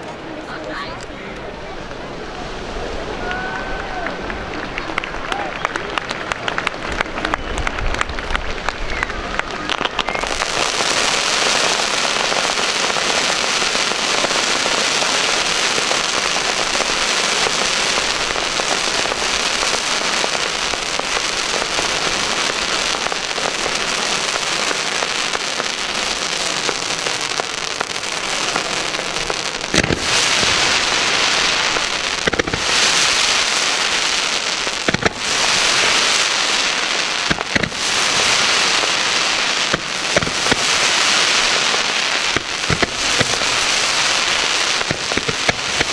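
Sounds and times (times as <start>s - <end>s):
fireworks bangs: 0.0s - 45.9s
fireworks crackle and hiss: 0.0s - 45.9s.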